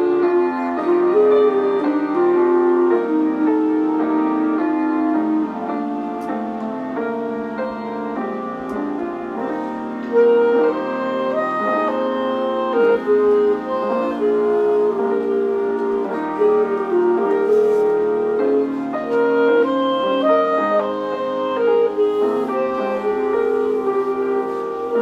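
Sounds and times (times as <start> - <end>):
clarinet melody: 0.0 - 25.0
piano accompaniment: 0.0 - 25.0.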